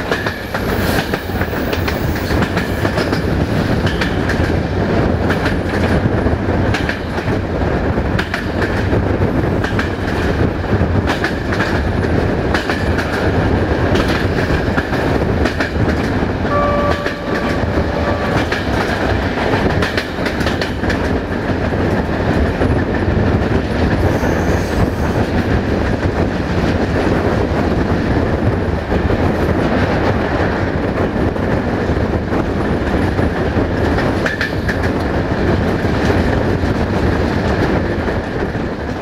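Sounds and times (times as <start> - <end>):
train wheels clacking on track: 0.0 - 39.0.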